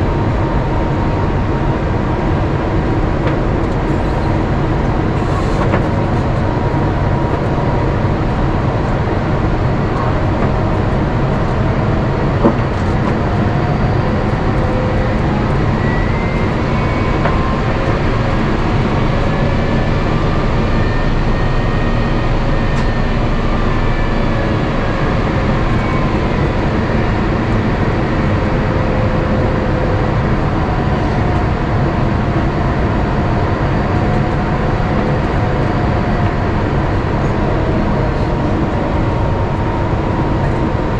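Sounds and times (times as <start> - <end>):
aircraft engine hum: 0.0 - 40.9.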